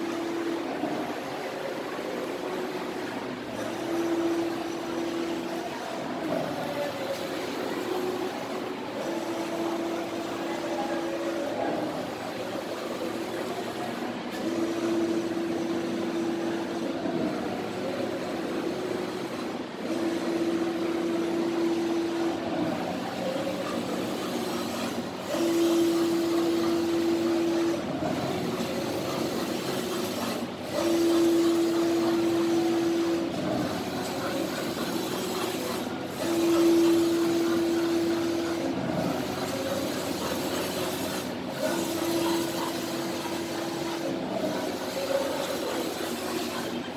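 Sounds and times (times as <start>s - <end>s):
printer mechanical running: 0.0s - 46.9s.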